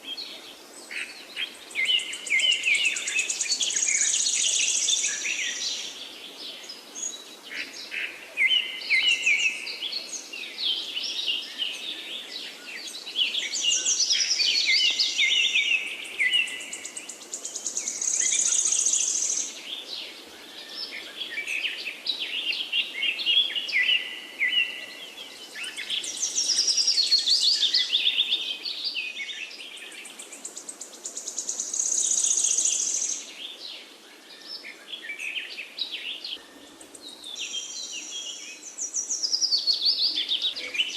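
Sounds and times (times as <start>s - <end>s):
birds chirping and calling: 6.6s - 40.9s.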